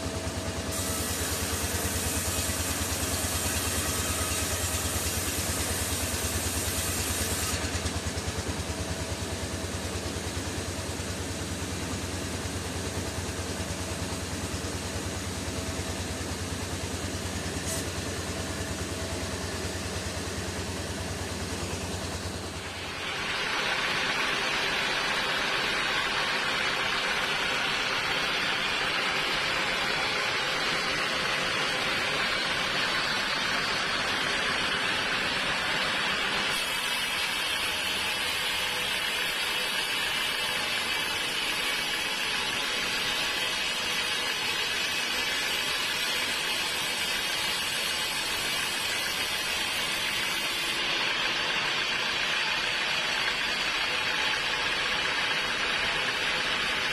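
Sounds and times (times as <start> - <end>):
sawmill saw cutting log: 0.0 - 9.4, 17.3 - 56.9.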